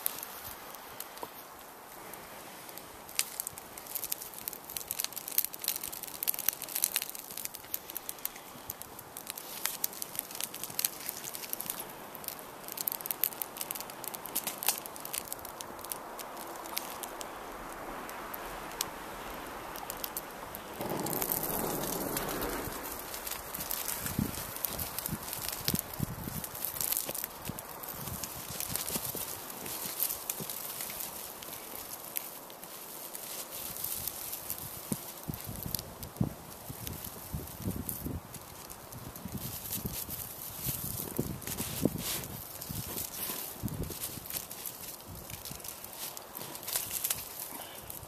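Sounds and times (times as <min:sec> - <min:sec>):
tinder crackling: 0:00.0 - 0:48.0
tinder bursting into flame: 0:02.2 - 0:48.0.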